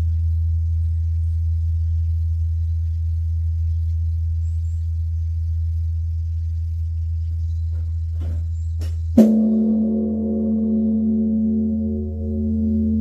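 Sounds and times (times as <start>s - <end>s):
bronze bell deep hum: 0.0s - 13.0s.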